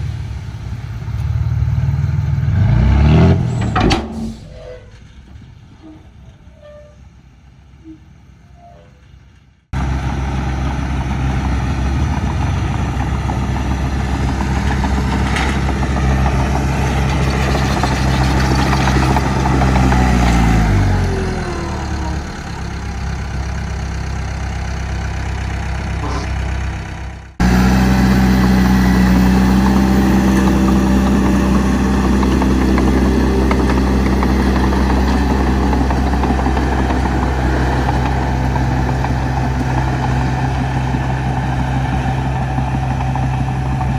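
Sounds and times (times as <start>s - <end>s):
diesel engine running: 0.0s - 5.8s, 9.7s - 43.9s
engine drone: 0.0s - 6.0s, 9.8s - 43.9s.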